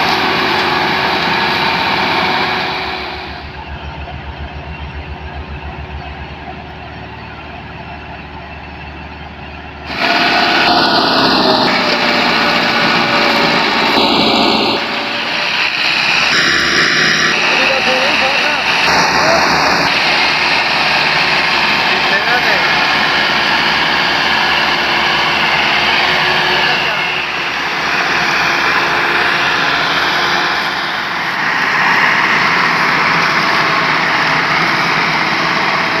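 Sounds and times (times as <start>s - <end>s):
diesel tractor engine running: 0.0s - 36.0s
high-pitched tones: 2.5s - 31.4s.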